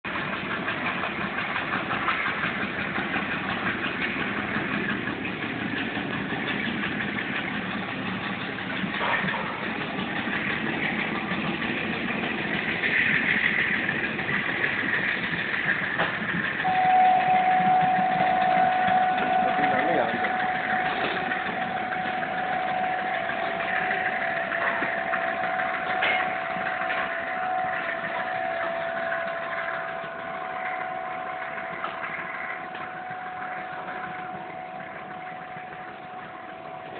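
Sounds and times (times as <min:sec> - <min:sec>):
locomotive engine rumbling: 0:00.0 - 0:36.9.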